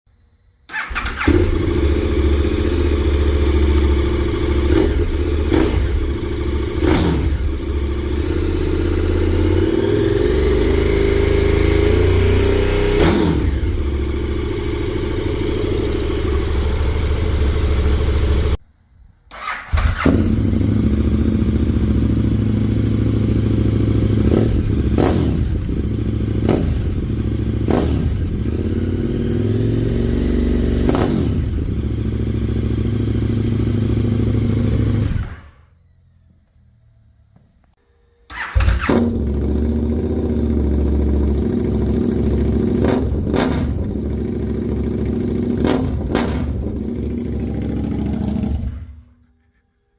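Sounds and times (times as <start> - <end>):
motorcycle engine revving: 0.7 - 18.6, 19.4 - 35.7, 38.3 - 49.6.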